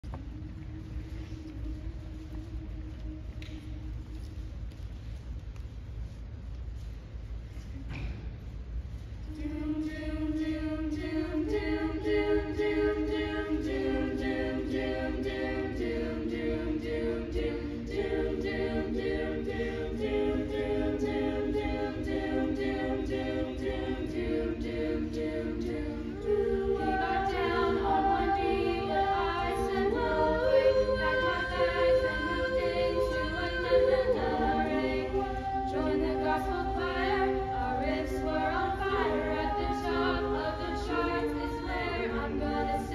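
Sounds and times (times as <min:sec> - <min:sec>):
choir singing a cappella: 0:00.0 - 0:04.7, 0:09.2 - 0:42.9.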